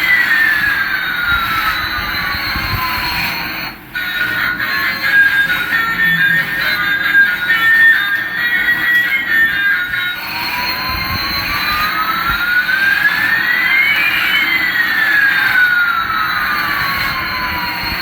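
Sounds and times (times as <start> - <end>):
jet engine rush and whine: 0.0 - 18.0.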